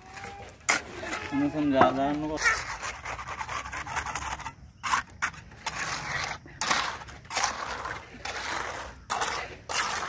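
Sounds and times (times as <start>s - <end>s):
trowel scraping wet concrete: 0.0s - 10.0s.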